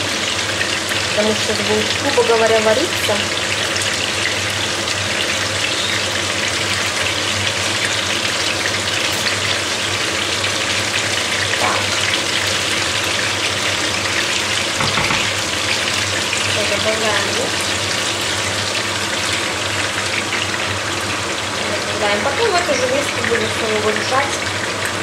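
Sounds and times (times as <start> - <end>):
meat frying in oil: 0.0 - 25.0.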